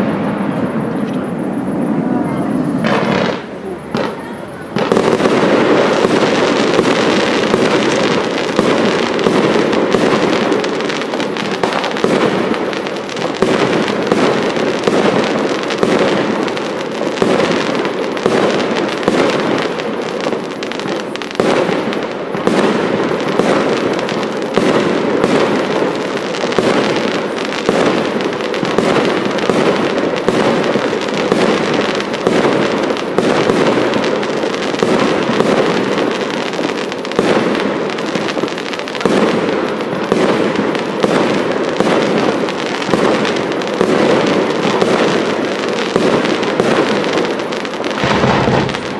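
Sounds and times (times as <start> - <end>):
fireworks bangs and pops: 0.0 - 48.9.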